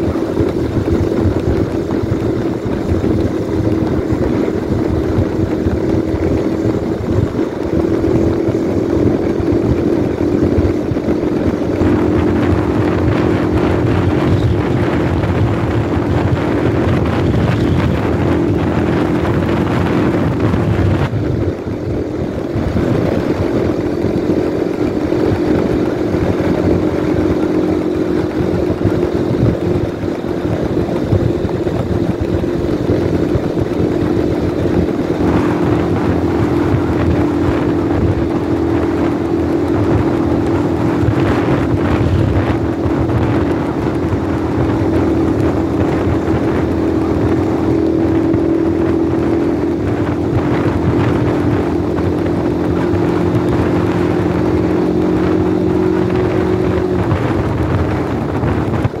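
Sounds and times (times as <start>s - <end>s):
motorcycle engine droning: 0.0s - 59.0s
wind rushing over microphone: 0.0s - 59.0s.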